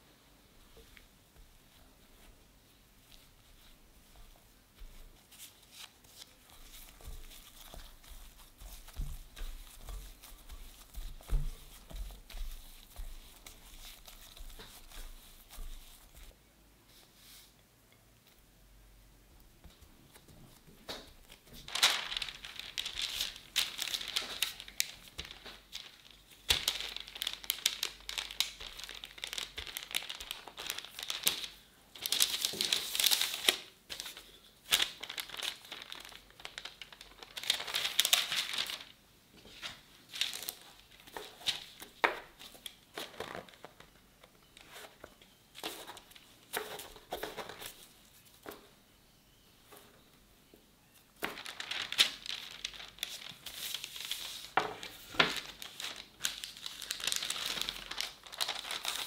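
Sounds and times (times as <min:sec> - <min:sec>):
parchment paper crinkling: 0:00.7 - 0:16.4, 0:19.6 - 0:48.7, 0:50.9 - 0:59.0.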